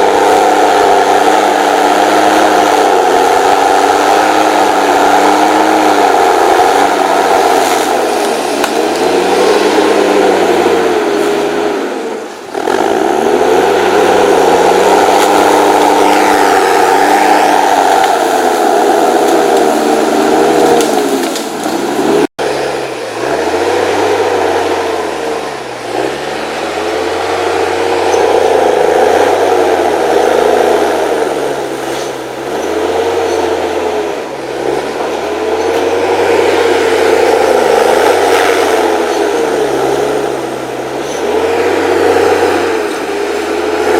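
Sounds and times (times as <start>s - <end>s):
diesel engine under changing load: 0.0s - 43.9s.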